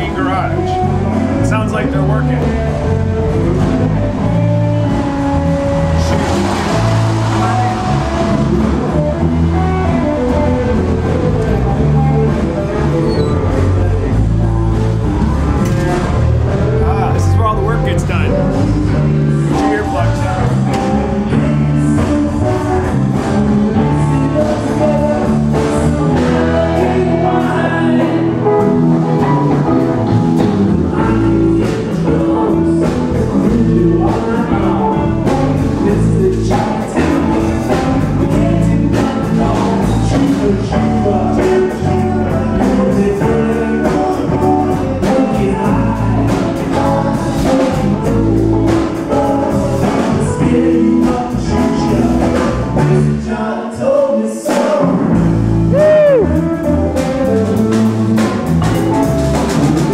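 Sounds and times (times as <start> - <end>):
person singing: 0.0 - 29.7, 30.7 - 58.9
rock band playing: 0.0 - 53.3, 54.5 - 59.9.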